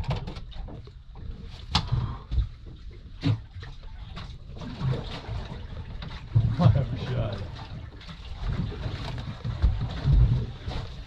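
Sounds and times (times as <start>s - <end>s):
wind and water rumble: 0.0s - 11.0s.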